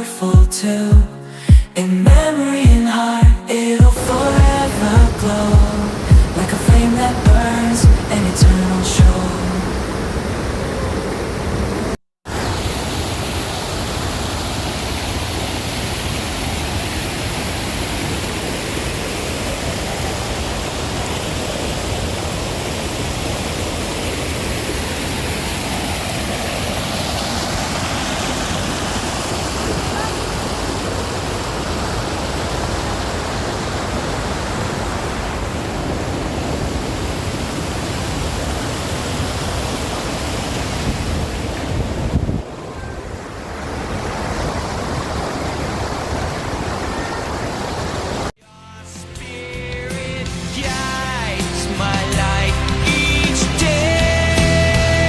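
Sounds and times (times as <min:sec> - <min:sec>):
waterfall rushing: 0:04.0 - 0:48.4.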